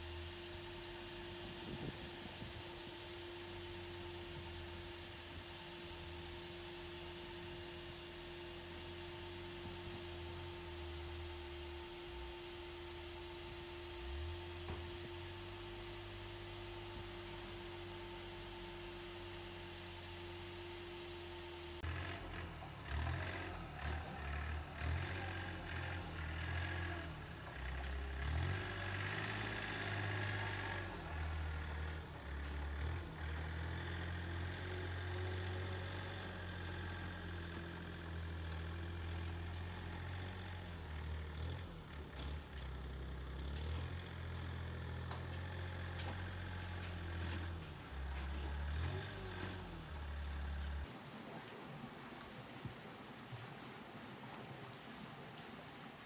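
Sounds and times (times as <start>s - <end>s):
wheel loader engine running: 0.0s - 56.0s.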